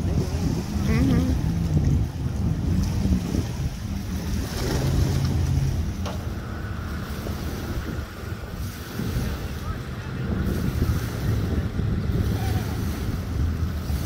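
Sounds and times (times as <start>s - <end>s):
low engine rumble: 0.0s - 14.0s
wind buffeting microphone: 0.0s - 14.0s.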